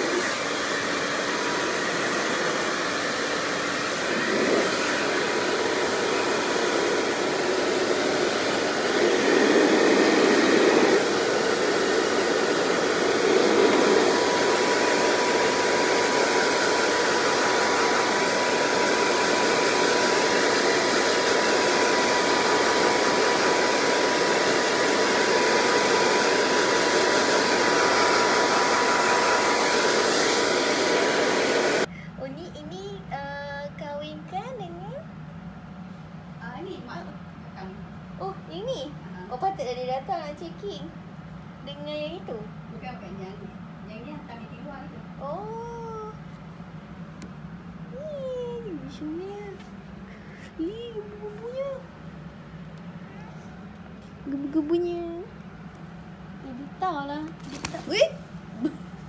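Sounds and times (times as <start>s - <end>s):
blow dryer running: 0.0s - 31.9s, 41.7s - 59.0s.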